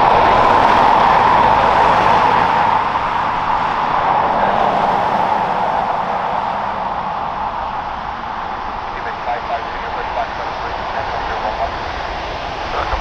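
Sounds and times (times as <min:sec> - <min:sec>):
jet engine whine: 0:00.0 - 0:13.0
rushing noise: 0:00.0 - 0:13.0.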